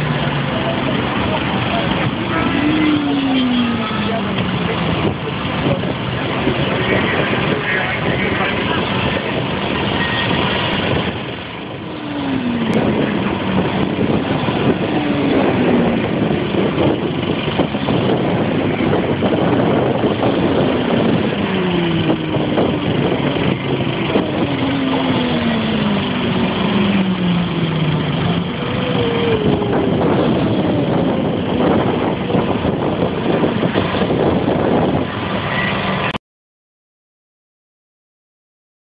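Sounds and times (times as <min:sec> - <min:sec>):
motorcycles passing at speed: 0:00.0 - 0:36.1.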